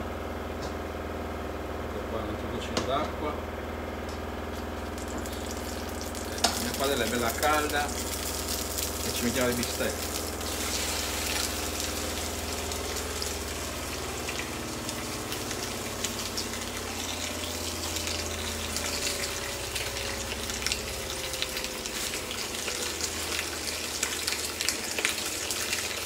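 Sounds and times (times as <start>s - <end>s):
low steady hum: 0.0s - 26.0s
steak sizzling in a skillet: 5.0s - 26.0s.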